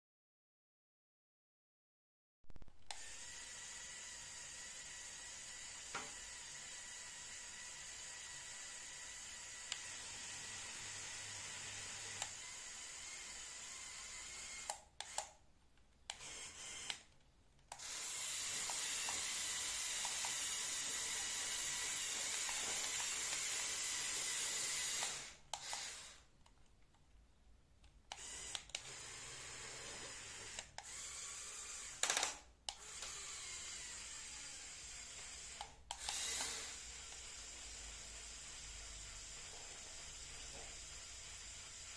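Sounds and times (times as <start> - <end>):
small electric motors whirring: 2.9 - 15.4, 16.1 - 17.1, 17.7 - 26.3, 28.1 - 41.9.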